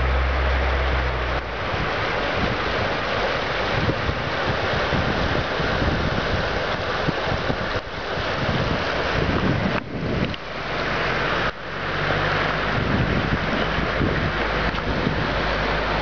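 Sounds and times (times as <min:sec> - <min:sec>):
floodwater rushing: 0:00.0 - 0:16.0
wind buffeting microphone: 0:01.2 - 0:10.4, 0:12.0 - 0:16.0.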